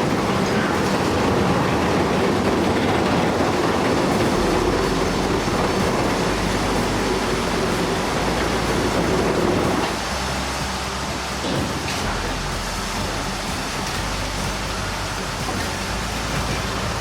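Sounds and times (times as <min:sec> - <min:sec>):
crawler tracks rattling: 0:00.0 - 0:17.0
diesel engine running: 0:00.0 - 0:17.0.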